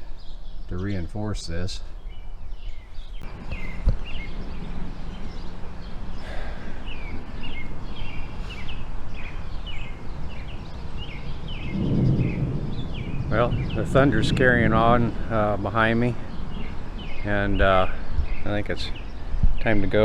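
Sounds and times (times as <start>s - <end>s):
bird chirping: 0.0s - 20.0s
distant thunder rumble: 3.2s - 19.6s.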